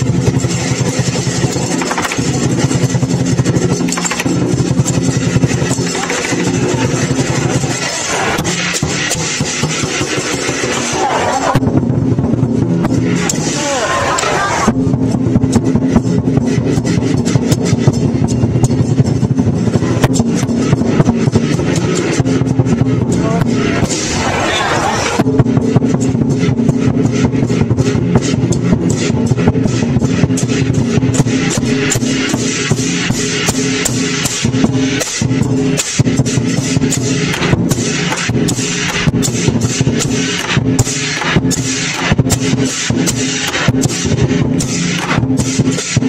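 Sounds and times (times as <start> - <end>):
cymbals clashing: 0.0 - 46.0
large drum fast rolls: 0.0 - 46.0.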